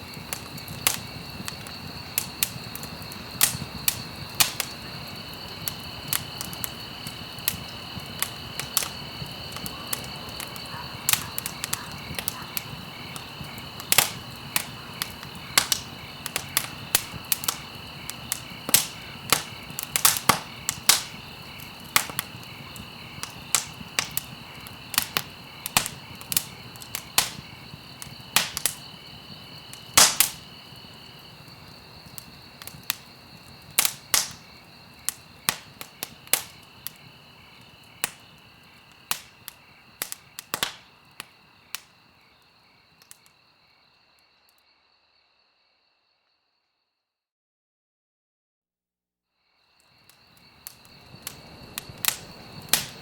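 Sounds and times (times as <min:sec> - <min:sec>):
campfire crackling: 0:00.0 - 0:44.6, 0:49.8 - 0:53.0.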